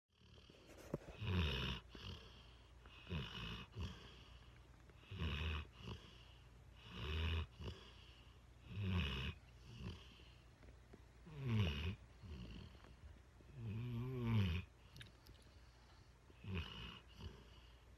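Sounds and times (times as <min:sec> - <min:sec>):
dog snoring: 0:00.1 - 0:17.8.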